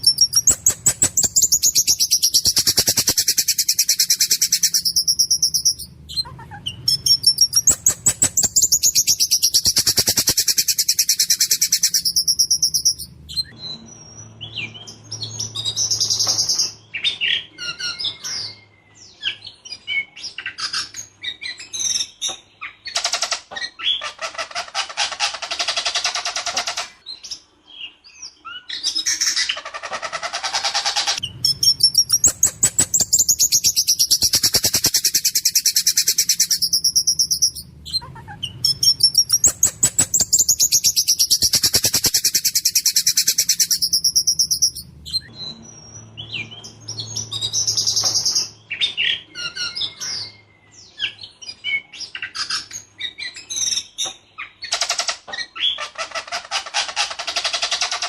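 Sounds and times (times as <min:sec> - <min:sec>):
songbird singing whistles and rattles: 0:00.0 - 0:27.4, 0:28.2 - 0:58.0.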